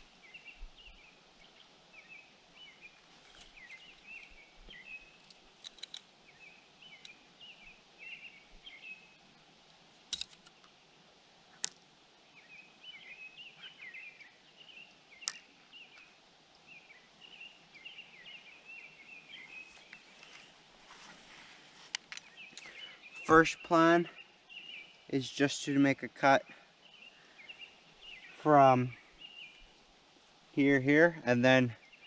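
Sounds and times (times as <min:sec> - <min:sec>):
birds chirping: 0:00.0 - 0:09.4, 0:12.3 - 0:29.9, 0:30.5 - 0:32.0.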